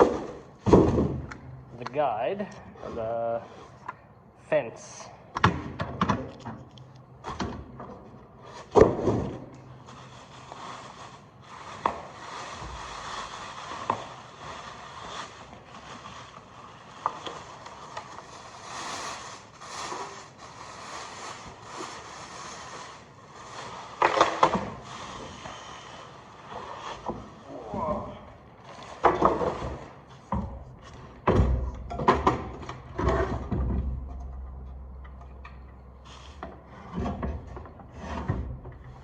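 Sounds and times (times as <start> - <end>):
rustling and scraping: 0.0 - 5.1, 6.1 - 39.0.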